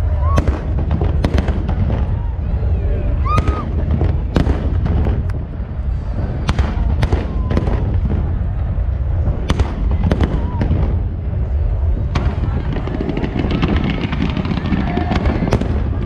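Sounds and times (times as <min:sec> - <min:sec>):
continuous deep rumble: 0:00.0 - 0:16.0
fireworks bangs: 0:00.0 - 0:16.0.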